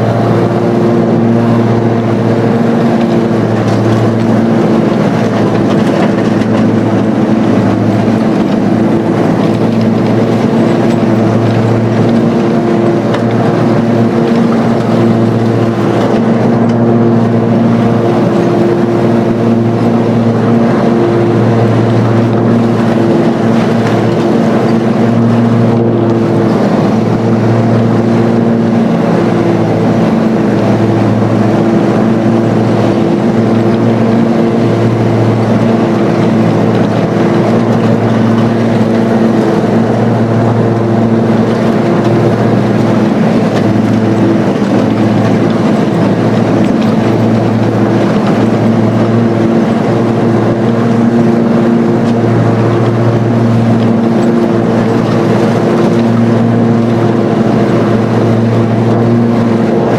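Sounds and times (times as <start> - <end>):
riding lawn mower engine: 0.0 - 59.9.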